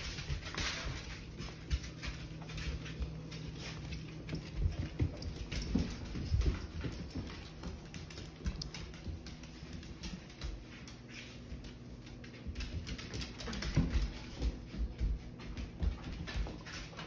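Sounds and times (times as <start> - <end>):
dog claws clicking on wooden floor: 0.0 - 17.0.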